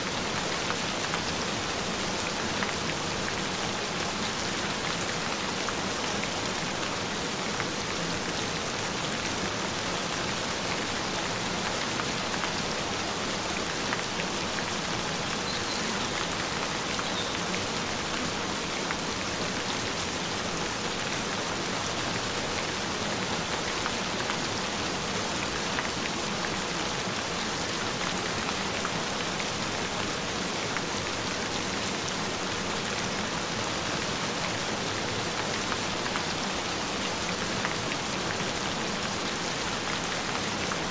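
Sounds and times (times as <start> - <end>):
gentle rain falling: 0.0 - 40.9.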